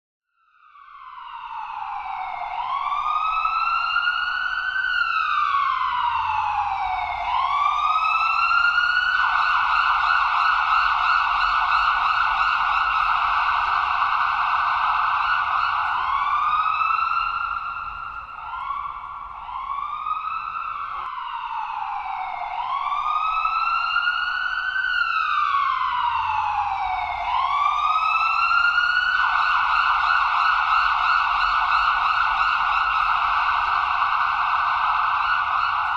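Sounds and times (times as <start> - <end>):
ambulance siren: 0.4 - 35.9.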